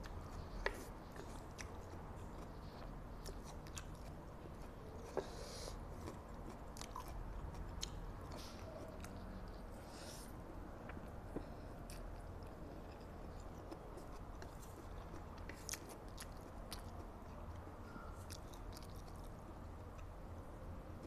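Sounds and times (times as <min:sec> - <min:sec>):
person chewing noodles: 0:00.0 - 0:20.2.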